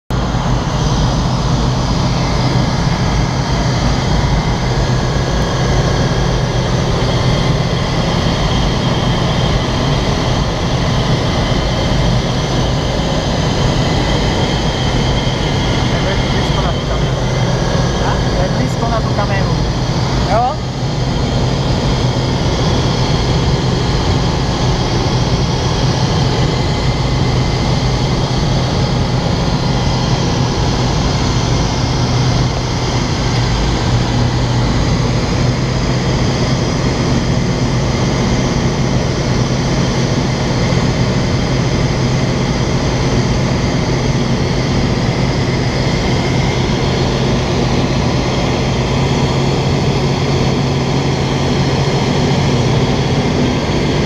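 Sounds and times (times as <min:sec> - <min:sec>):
light aircraft engine droning: 0:00.1 - 0:54.0.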